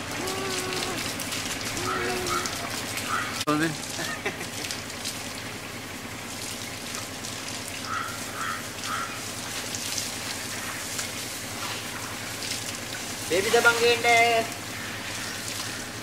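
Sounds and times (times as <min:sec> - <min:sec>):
water splashing from a hose: 0:00.0 - 0:16.0.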